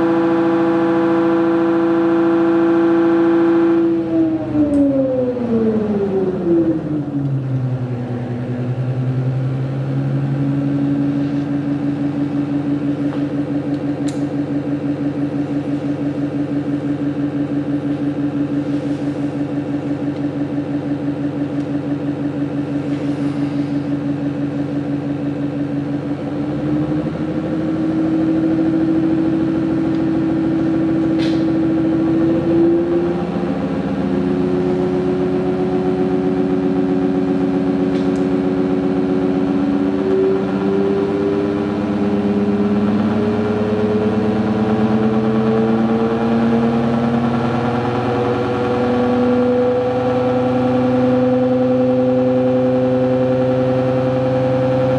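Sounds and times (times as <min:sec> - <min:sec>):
stepper motor pulsing whine: 0:00.0 - 0:54.9.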